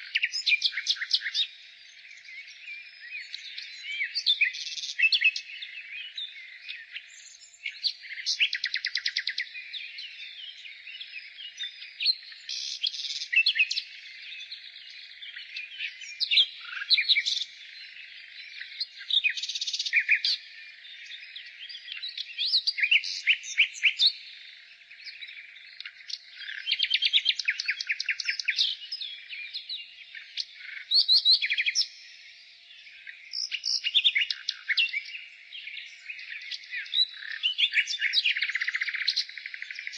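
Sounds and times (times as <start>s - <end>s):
chatter of other birds: 0.0s - 39.9s
nightingale singing: 0.0s - 39.9s.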